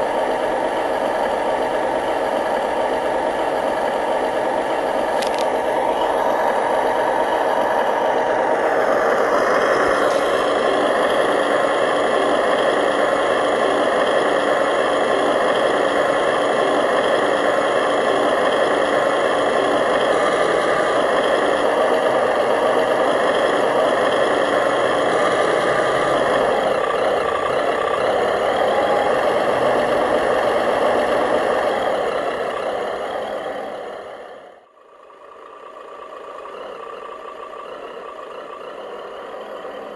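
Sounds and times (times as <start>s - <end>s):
model truck motor droning: 0.0s - 39.9s.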